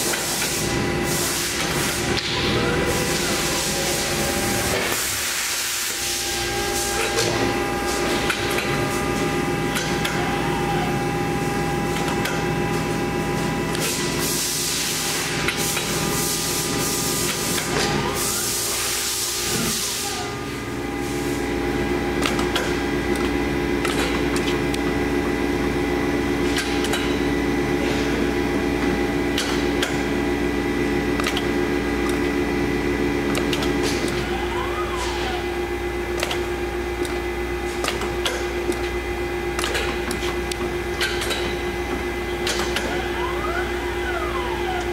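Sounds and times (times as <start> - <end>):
machine motor hum: 0.0 - 44.9.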